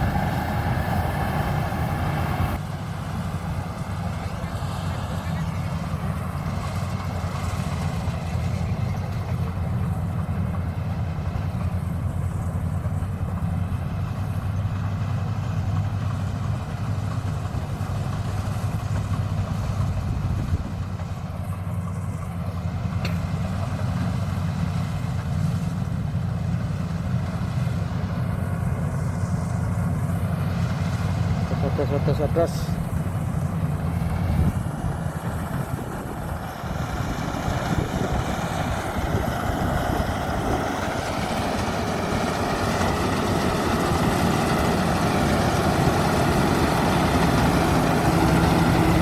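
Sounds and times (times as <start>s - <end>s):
combine harvester engine running: 0.0s - 49.0s.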